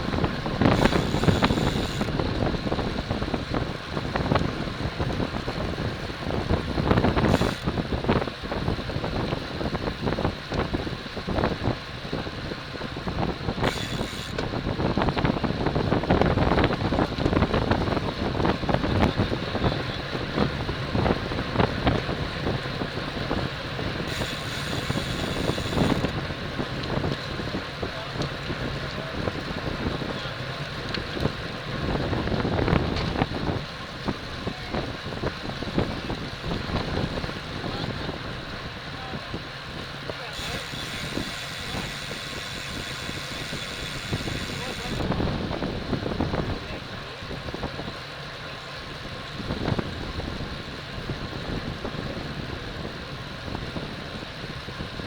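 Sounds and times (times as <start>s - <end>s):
wind buffeting microphone: 0.0s - 48.0s, 48.9s - 55.0s.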